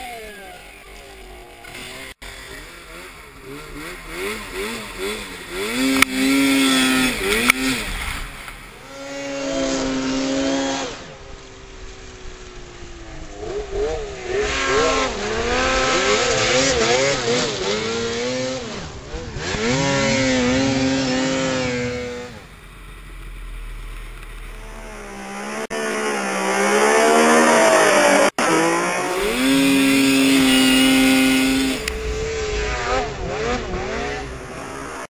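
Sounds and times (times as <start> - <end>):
snowmobile engines revving: 0.0 - 35.0.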